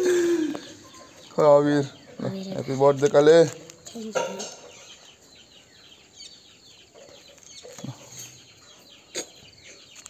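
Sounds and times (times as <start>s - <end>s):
chicks cheeping: 0.0s - 10.0s.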